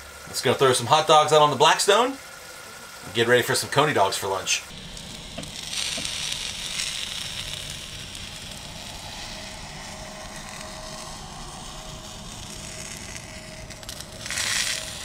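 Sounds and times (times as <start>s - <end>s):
hot dogs sizzling on griddle: 0.0s - 15.0s.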